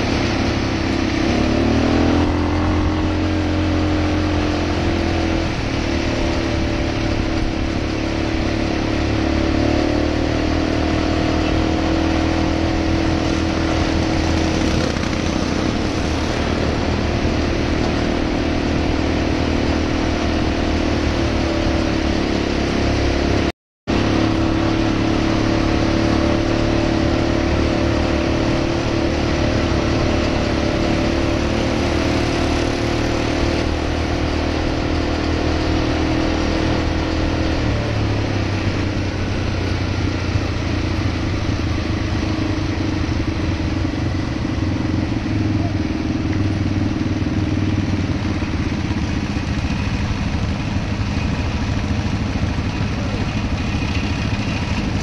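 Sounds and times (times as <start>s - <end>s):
atv engine droning: 0.0s - 55.0s.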